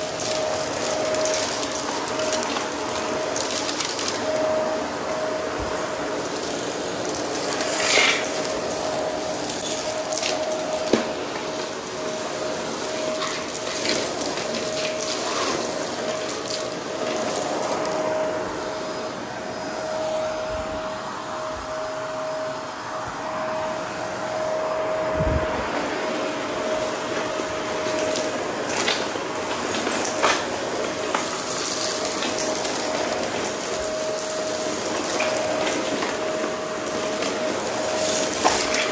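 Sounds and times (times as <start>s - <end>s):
brushroll crunching debris: 0.0s - 18.7s, 25.7s - 38.9s
vacuum motor whine: 0.0s - 38.9s.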